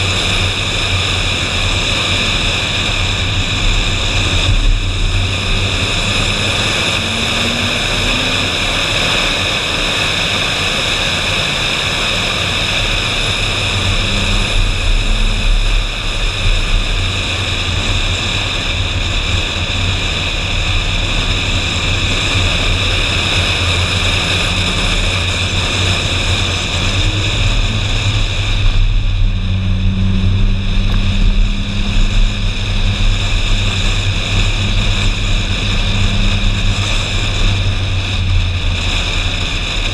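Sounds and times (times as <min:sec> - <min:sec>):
car engine drone: 0:00.0 - 0:39.9
road noise: 0:00.0 - 0:39.9
wind rush: 0:00.0 - 0:39.9.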